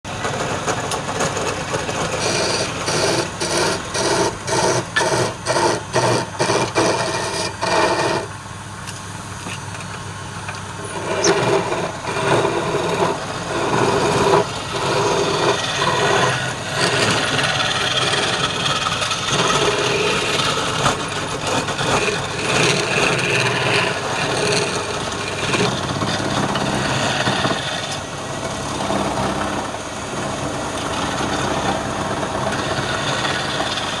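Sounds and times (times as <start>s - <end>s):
tool scraping spinning wood: 0.1s - 34.0s
wood lathe running: 0.1s - 34.0s.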